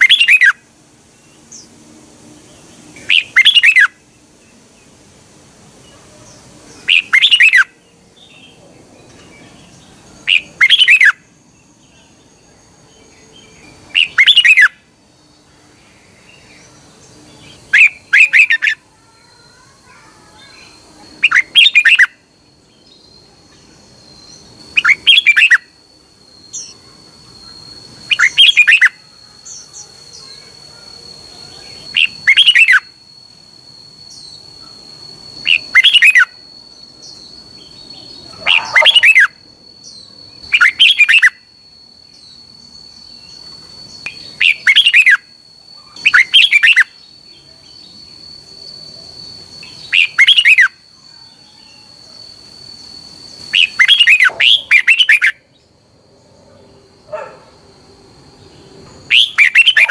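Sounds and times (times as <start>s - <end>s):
bird singing: 0.0s - 59.9s
faint high whine: 0.0s - 59.9s.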